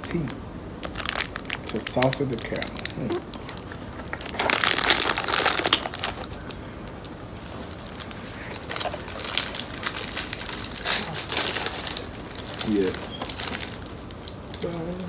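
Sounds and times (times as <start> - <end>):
plastic wrapper crinkling: 0.2 - 15.0.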